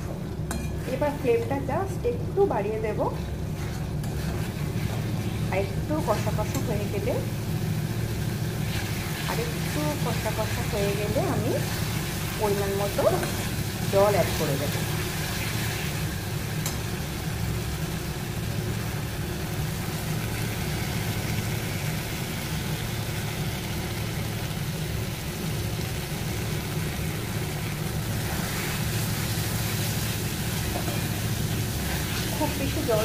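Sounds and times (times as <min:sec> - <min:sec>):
food sizzling: 0:00.0 - 0:33.0.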